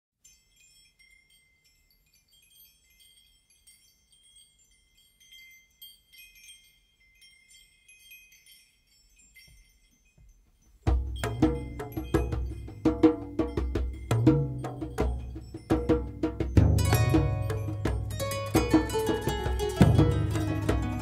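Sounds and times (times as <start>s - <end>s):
high chime-like tinkling: 0.2s - 21.0s.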